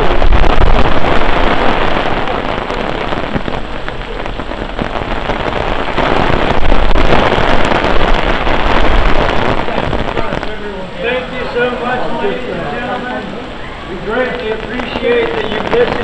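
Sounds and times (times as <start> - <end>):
heavy rain on wet street: 0.0 - 16.0.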